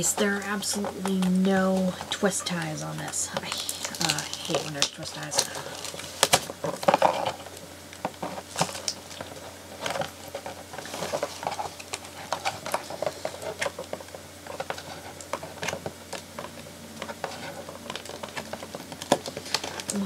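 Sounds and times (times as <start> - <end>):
cardboard and plastic packaging crackling: 0.0 - 20.0.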